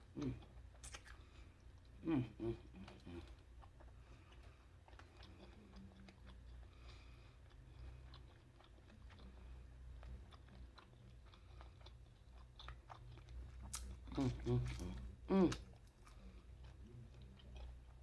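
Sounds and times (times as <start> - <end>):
wet mouth chewing seafood: 0.3 - 2.0, 2.6 - 18.0.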